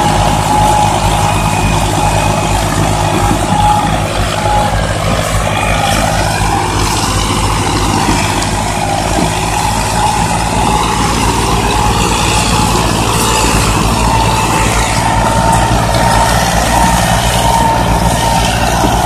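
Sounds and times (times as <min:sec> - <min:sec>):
diesel tractor engines under load: 0:00.0 - 0:19.0.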